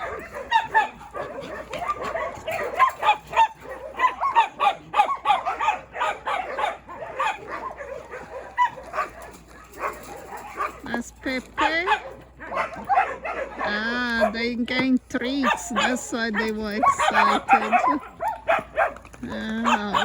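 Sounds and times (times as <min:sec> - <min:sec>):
dogs barking and yipping: 0:00.0 - 0:20.0.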